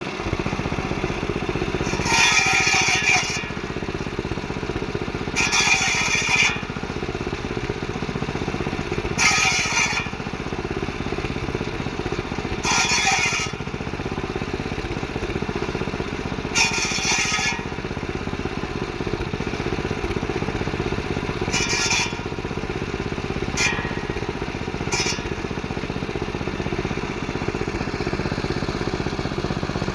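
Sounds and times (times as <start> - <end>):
saw blade rasping through stems: 0.7 - 7.4, 8.2 - 28.7.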